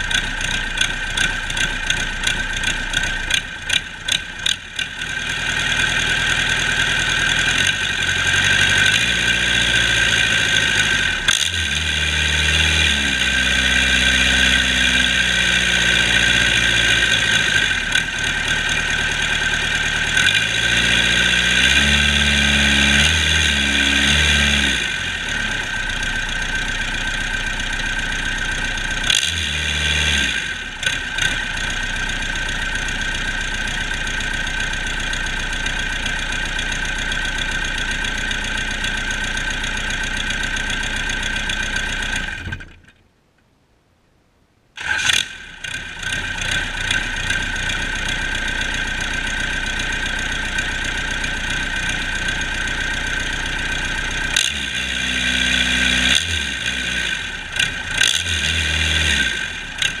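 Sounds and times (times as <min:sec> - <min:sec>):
diesel engine revving: 0:00.0 - 0:42.7, 0:44.8 - 1:00.0
diesel engine running with whine: 0:00.0 - 0:43.0, 0:44.8 - 1:00.0.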